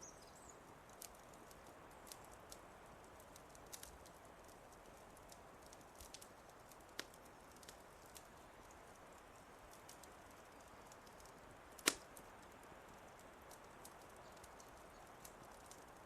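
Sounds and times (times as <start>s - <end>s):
wood fire crackling: 0.0s - 16.0s
fire hiss: 0.6s - 16.0s.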